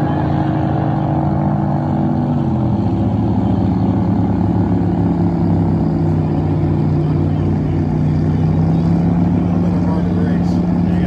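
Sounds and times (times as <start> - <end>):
boat engines drone: 0.0 - 11.0.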